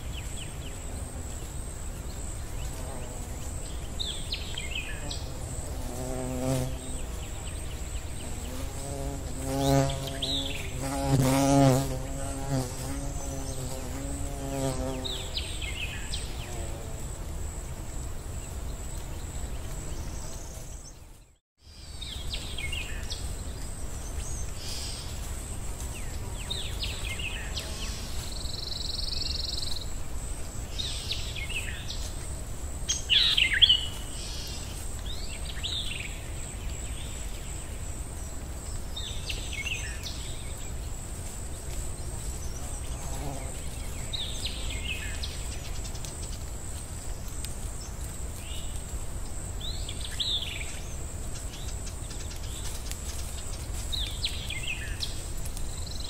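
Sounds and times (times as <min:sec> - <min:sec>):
insect buzzing: 0:00.0 - 0:36.1, 0:36.9 - 0:56.0
steady background hiss: 0:00.0 - 0:56.0.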